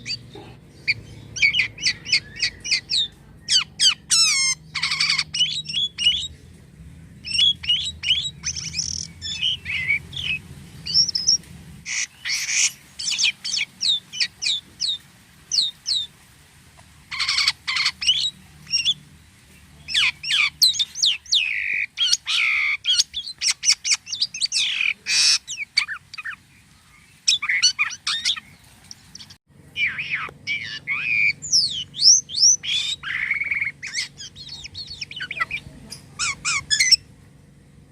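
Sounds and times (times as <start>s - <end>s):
starling singing whistles and chirps: 0.0s - 6.3s, 7.2s - 16.1s, 17.1s - 19.0s, 19.9s - 26.4s, 27.2s - 37.0s.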